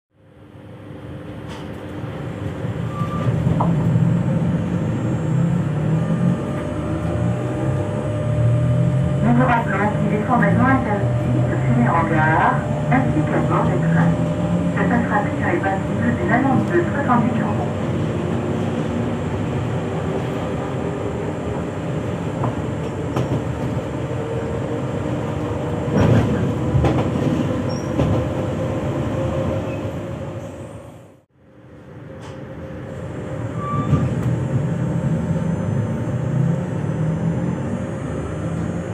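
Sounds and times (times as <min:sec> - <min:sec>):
train equipment humming: 0:00.3 - 0:38.9.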